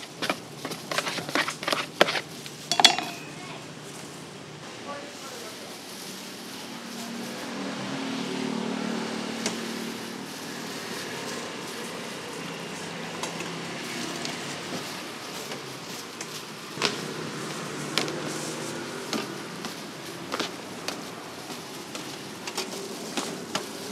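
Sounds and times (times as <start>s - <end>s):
street background noise: 0.0s - 23.9s.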